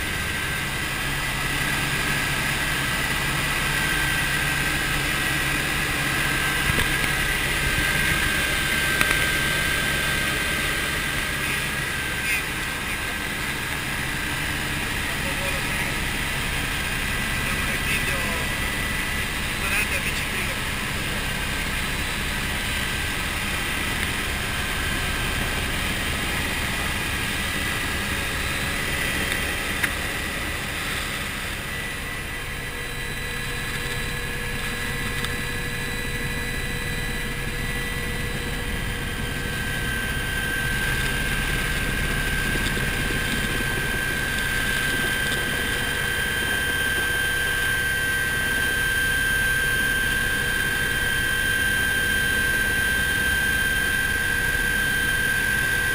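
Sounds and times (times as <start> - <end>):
helicopter engine whine: 0.0 - 55.9
helicopter rotor beat: 0.0 - 55.9.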